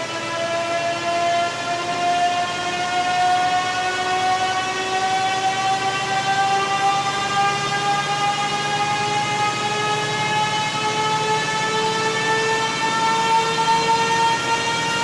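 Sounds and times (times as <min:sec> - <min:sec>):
whine rising in pitch: 0:00.1 - 0:15.0.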